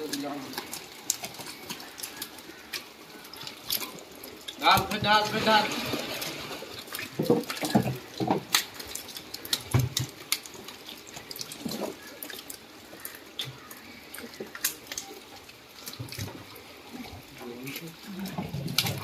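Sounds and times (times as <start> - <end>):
fish slapping and splashing: 0.0 - 19.0.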